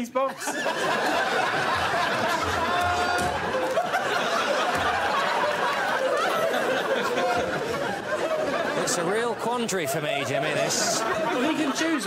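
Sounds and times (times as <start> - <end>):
audience laughing: 0.2 - 12.0
audience chattering: 0.7 - 12.0.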